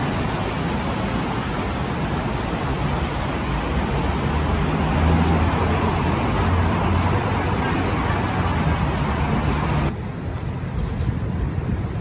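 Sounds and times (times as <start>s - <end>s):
hum of passing cars: 0.0s - 12.0s.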